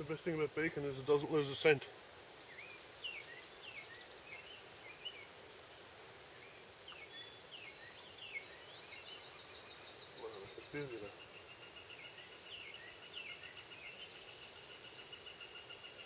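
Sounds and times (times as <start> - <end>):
faint outdoor hiss: 0.0 - 16.0
small birds chirping: 0.0 - 16.0.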